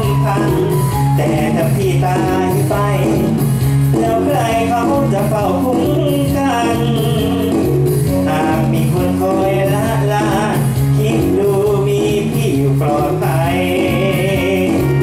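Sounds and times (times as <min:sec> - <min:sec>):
loud backing track: 0:00.0 - 0:15.0
man singing: 0:00.0 - 0:15.0.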